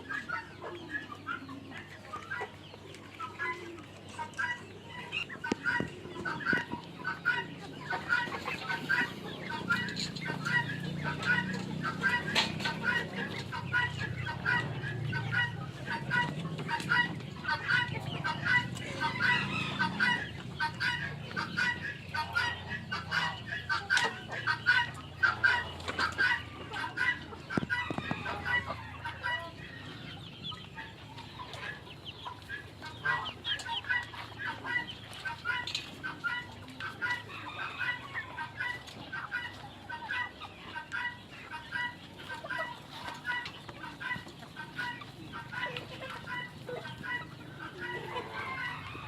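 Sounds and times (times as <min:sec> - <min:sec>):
chickens clucking: 0:00.0 - 0:49.0.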